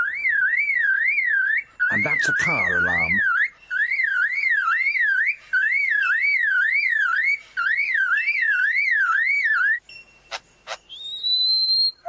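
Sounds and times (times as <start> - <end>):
bird mimicking car alarm: 0.0 - 12.0.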